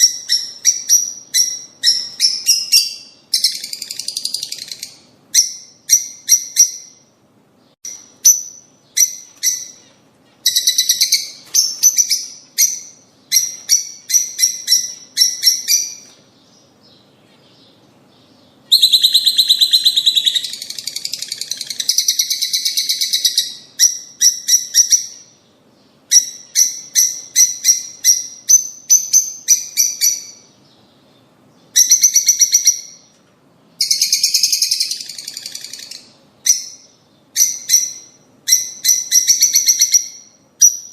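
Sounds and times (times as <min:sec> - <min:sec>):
lovebirds chirping and chattering: 0:00.0 - 0:40.9.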